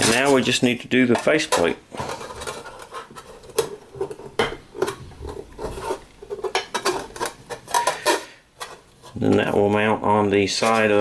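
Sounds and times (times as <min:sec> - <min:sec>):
sheet metal scraping: 0:00.0 - 0:09.7.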